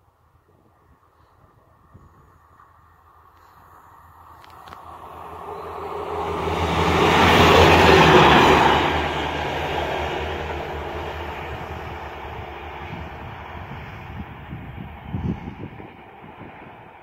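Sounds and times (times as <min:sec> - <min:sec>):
train passing at speed: 0:00.1 - 0:17.0.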